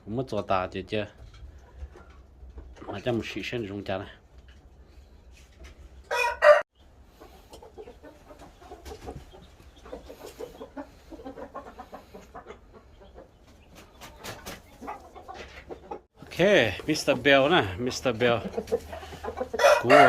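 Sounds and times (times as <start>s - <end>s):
chickens clucking: 0.1s - 20.0s.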